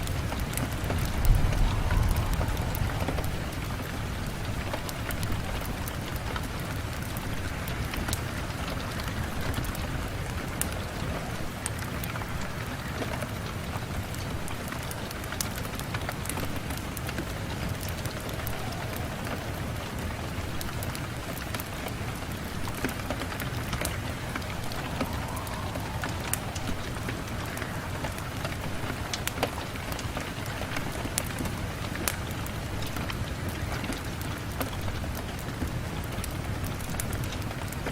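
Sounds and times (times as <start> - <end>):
rain on a window: 0.0 - 37.9.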